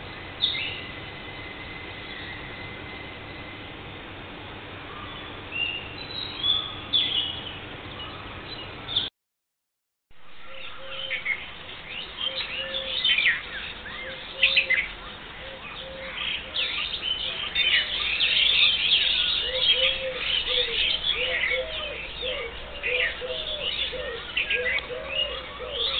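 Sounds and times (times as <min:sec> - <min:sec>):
birds chirping and trilling: 0:00.0 - 0:09.1, 0:10.3 - 0:25.9
low repeated bird call: 0:00.0 - 0:09.1, 0:10.3 - 0:25.9.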